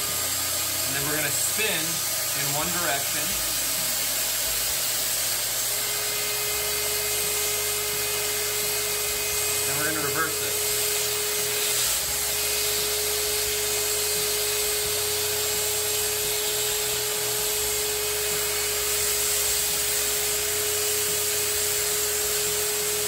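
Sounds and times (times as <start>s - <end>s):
shop vac sucking air: 0.0s - 23.0s.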